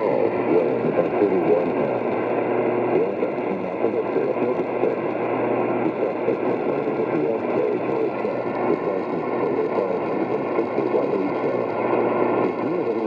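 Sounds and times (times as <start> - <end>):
faint garbled speech: 0.0 - 13.0
radio static hiss: 0.0 - 13.0.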